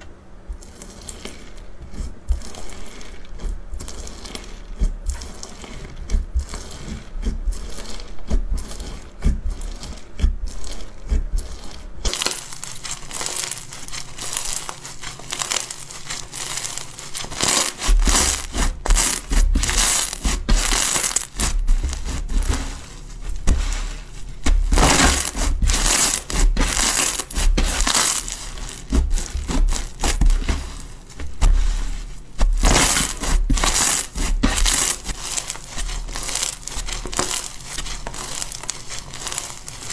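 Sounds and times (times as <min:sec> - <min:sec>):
slime crunchy crackling: 0:00.5 - 0:39.9.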